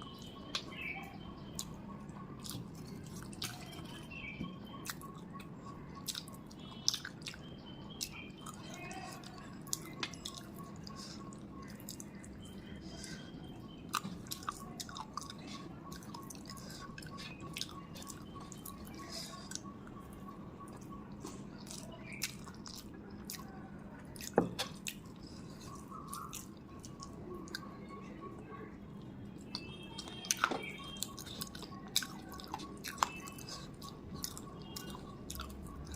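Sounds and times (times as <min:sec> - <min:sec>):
soft wet chewing: 0:00.0 - 0:35.9.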